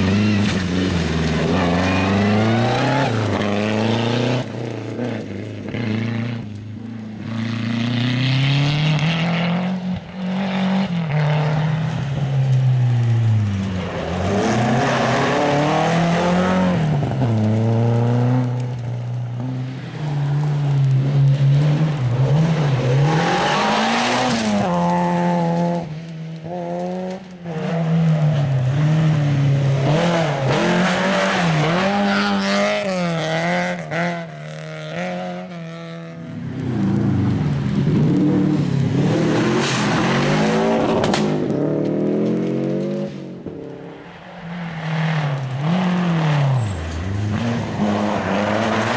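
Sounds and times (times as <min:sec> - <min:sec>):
tyres on loose gravel: 0:00.0 - 0:07.2, 0:10.8 - 0:48.9
rally car engines revving: 0:00.0 - 0:48.9.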